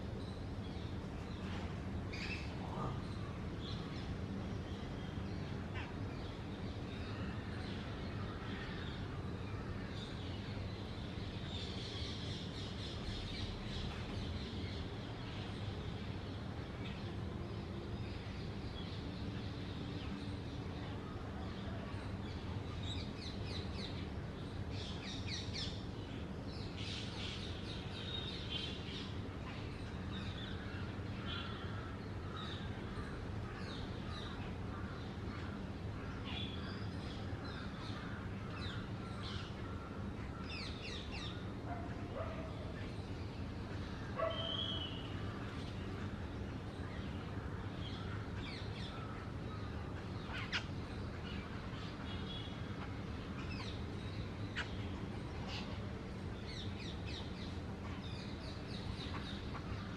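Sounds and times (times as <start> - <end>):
low background hum: 0.0 - 59.9.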